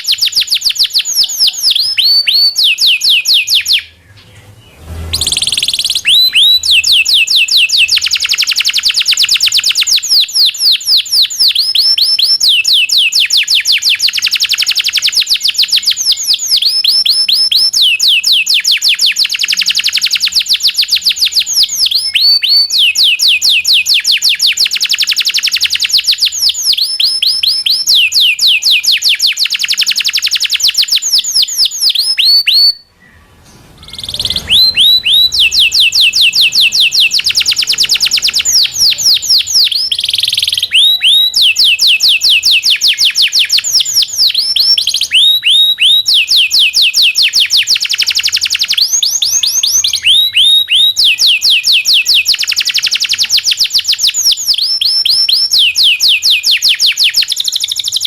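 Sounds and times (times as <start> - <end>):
canary singing in rolling trills: 0.0 - 58.0.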